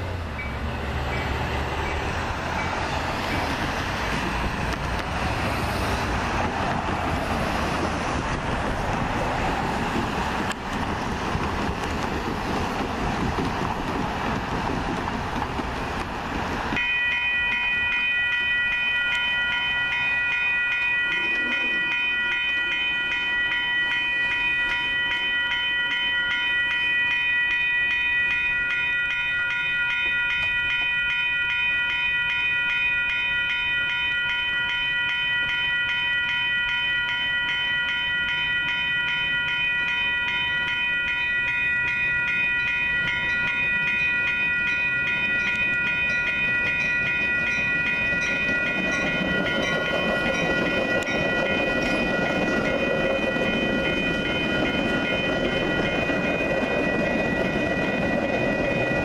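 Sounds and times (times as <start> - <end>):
railroad crossing bell ringing: 0.0 - 59.0.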